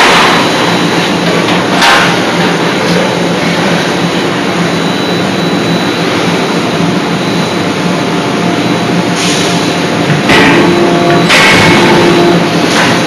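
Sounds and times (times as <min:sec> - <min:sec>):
forging hammer machinery humming: 0:00.0 - 0:13.0.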